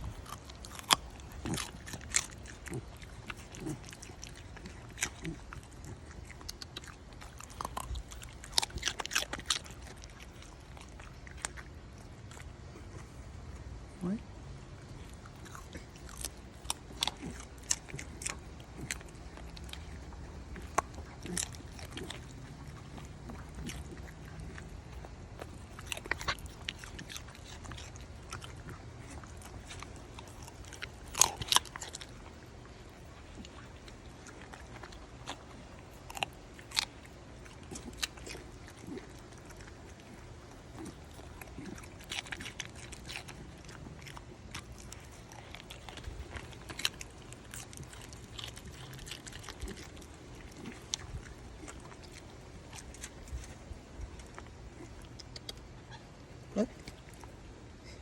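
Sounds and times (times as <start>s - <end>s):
carrot being bitten and chewed: 0.0s - 58.0s.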